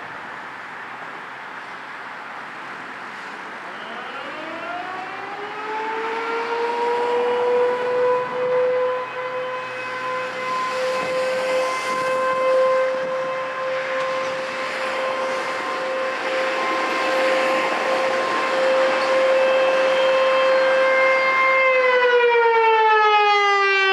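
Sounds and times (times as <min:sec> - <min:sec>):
distant warning siren steady tone: 0:03.1 - 0:23.9.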